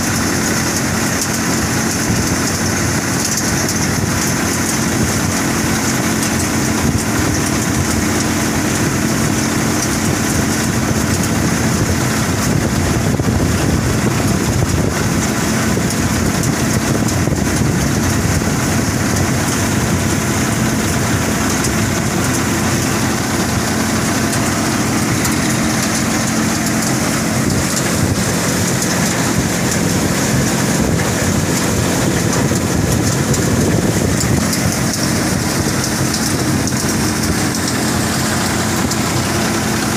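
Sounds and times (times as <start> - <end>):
seed pouring from chute: 0.0 - 39.9
threshing machine drone: 0.0 - 39.9.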